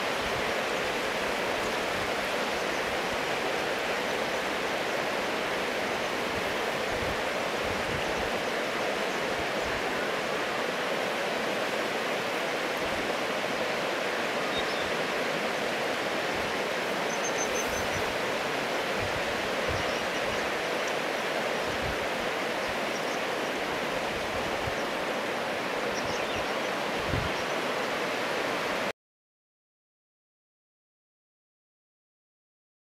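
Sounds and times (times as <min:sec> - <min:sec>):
river rushing over stones: 0:00.0 - 0:28.9.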